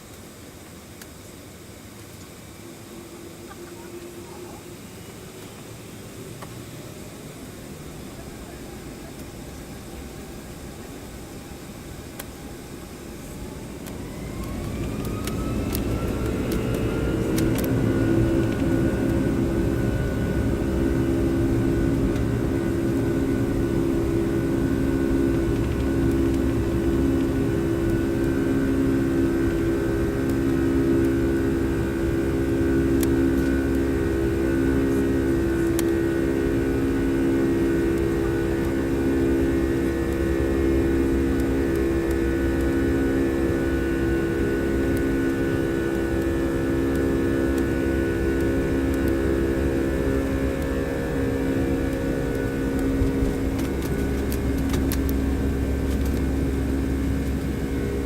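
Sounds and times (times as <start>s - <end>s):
jet engines heard from cabin: 0.0s - 58.0s.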